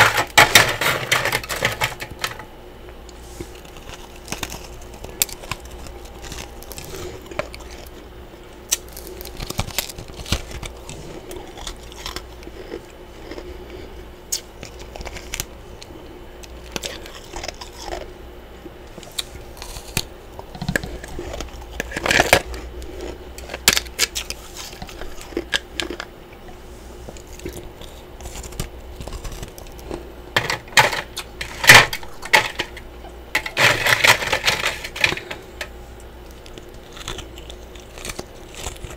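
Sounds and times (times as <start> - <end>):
chewing and crunching frost: 3.1 - 38.9.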